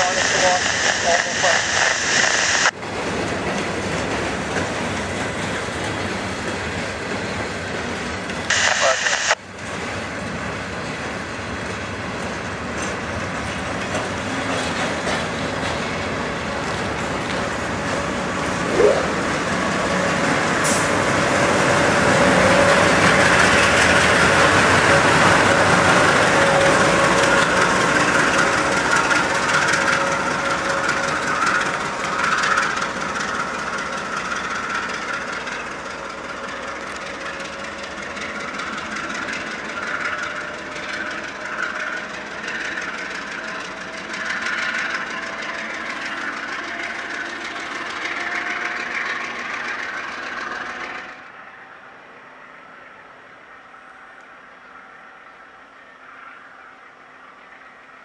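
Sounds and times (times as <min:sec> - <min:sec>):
freight train wheels clacking: 0:01.7 - 0:08.5, 0:09.6 - 0:51.4.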